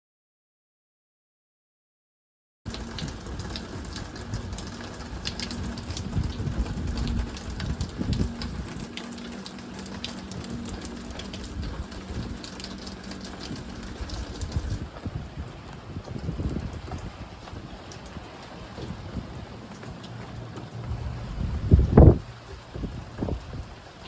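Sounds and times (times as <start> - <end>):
water spattering and splashing: 2.7 - 24.0.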